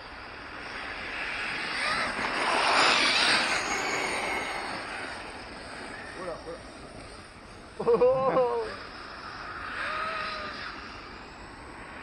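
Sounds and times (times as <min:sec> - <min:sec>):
radio-controlled truck driving past: 0:00.0 - 0:12.0.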